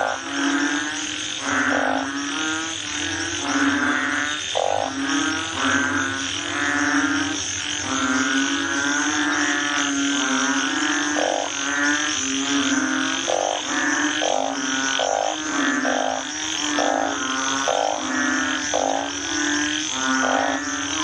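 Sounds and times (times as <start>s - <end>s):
frog croaking: 0.0s - 21.0s.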